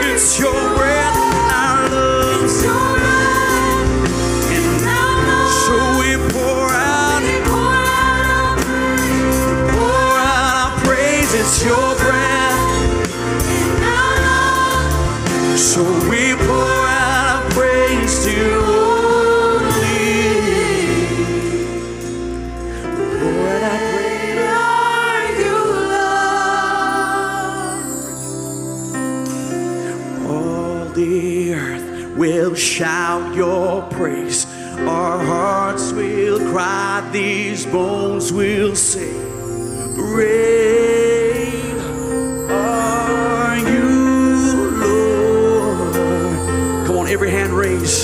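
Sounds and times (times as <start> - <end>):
voices singing gospel song: 0.0 - 28.5, 30.2 - 48.0
band chords and bass: 0.0 - 48.0.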